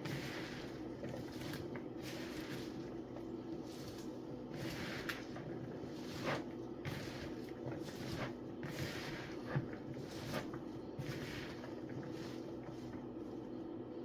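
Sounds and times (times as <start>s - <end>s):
vegetables squishing by hand: 0.0s - 13.6s
steady low hum: 0.0s - 14.0s.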